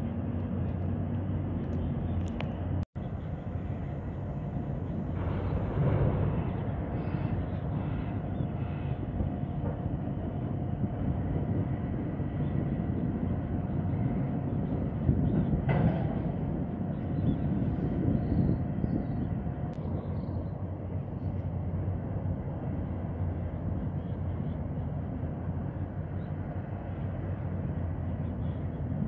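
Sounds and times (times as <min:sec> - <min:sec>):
distant port machinery rumble: 0:00.0 - 0:29.0.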